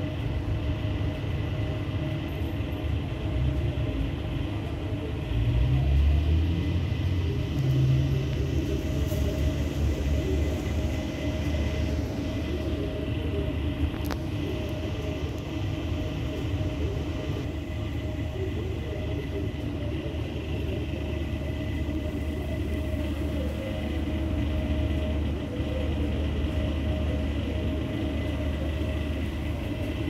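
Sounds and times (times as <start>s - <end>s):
low rumble with hum: 0.0s - 30.0s.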